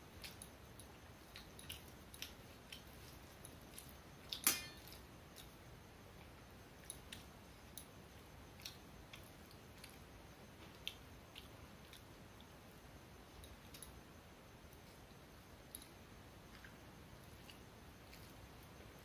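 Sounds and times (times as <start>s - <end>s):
chewing: 0.1s - 5.6s, 6.2s - 12.6s, 14.7s - 19.0s.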